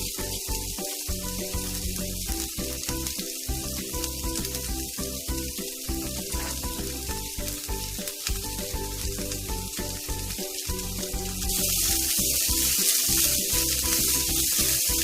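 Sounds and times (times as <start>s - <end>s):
background music: 0.0s - 15.0s
food sizzling in a frying pan: 0.0s - 15.0s.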